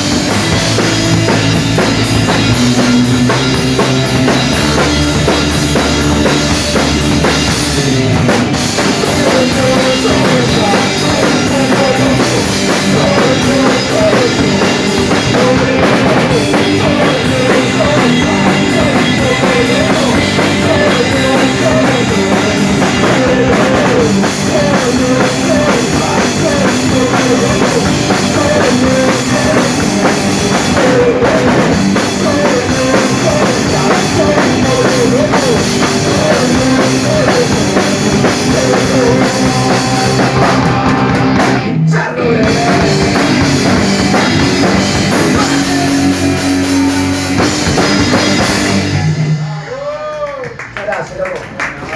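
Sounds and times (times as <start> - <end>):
electric guitar: 0.0 - 49.8
drum kit: 0.0 - 50.5.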